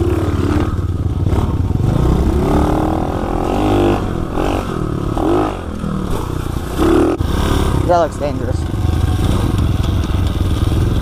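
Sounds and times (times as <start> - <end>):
pit bike engine revving: 0.0 - 11.0.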